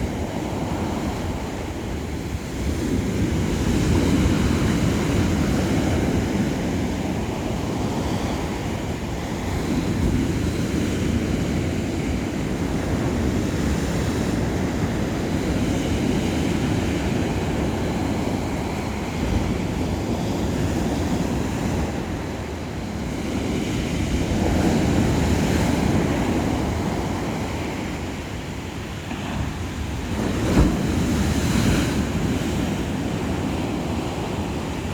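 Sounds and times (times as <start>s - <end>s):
sea waves breaking on shore: 0.0s - 34.9s
wind buffeting microphone: 0.0s - 34.9s.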